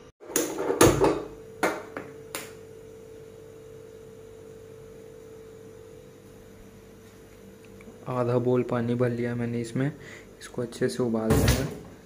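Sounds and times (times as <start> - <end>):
faint steady hum: 1.0 - 12.0.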